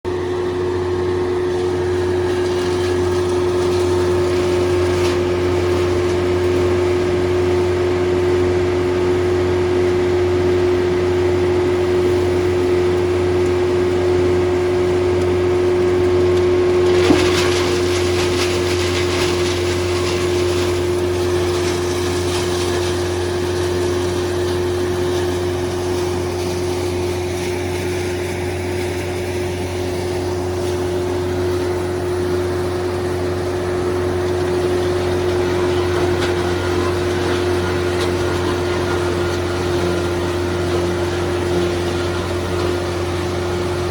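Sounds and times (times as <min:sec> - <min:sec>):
wood crusher engine humming: 0:00.1 - 0:43.9.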